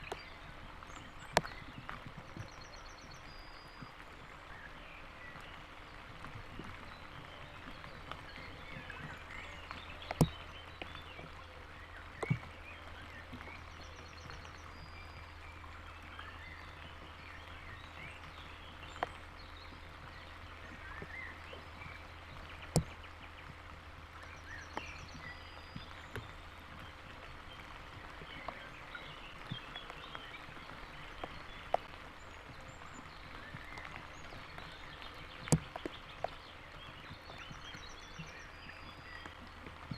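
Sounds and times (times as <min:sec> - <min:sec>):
heavy raindrops clicking on microphone: 0:00.0 - 0:39.9
steady rain falling: 0:00.0 - 0:39.9.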